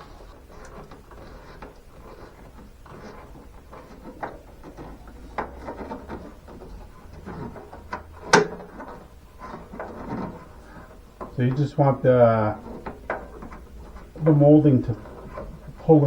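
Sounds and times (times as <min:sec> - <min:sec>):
light rubbing: 0:00.0 - 0:16.0.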